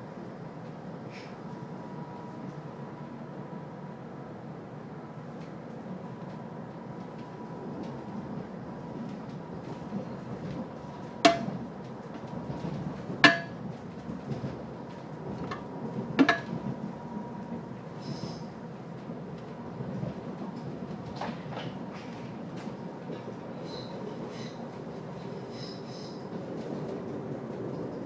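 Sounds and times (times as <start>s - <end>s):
train rumbling along track: 0.0s - 28.0s.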